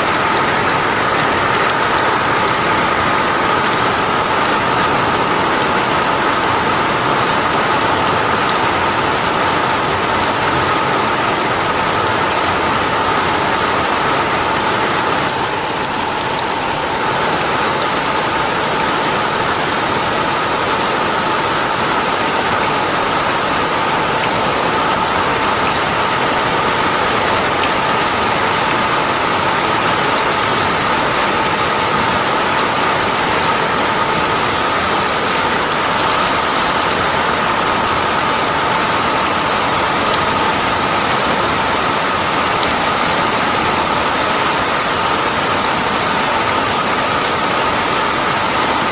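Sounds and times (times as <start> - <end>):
dense rain falling: 0.0 - 48.9.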